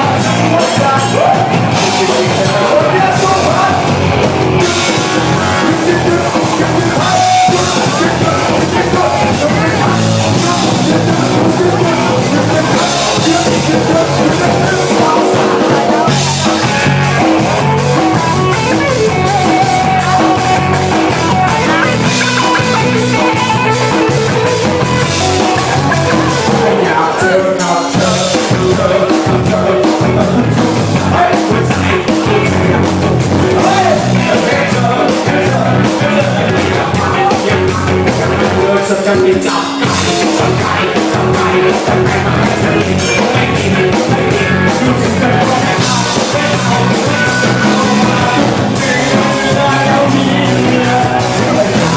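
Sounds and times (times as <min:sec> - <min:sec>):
person singing: 0:00.0 - 0:51.9
rock music with guitar and drums: 0:00.0 - 0:51.9.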